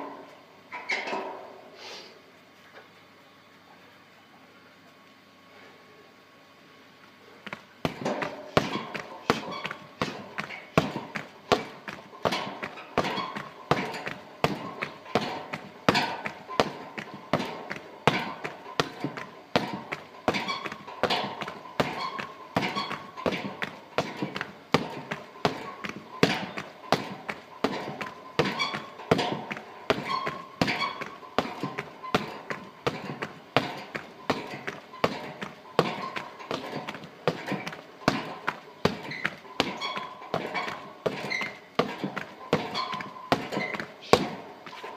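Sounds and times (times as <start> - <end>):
kicks slamming into heavy bag: 7.8 - 44.4.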